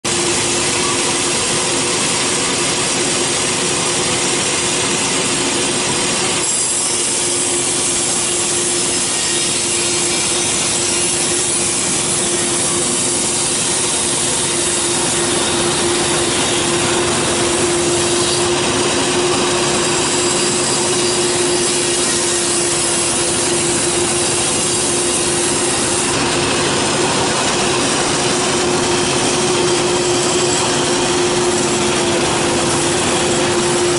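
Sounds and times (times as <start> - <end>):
sawmill machine hum: 0.0 - 33.9
saw blade hissing through wood: 0.1 - 33.9.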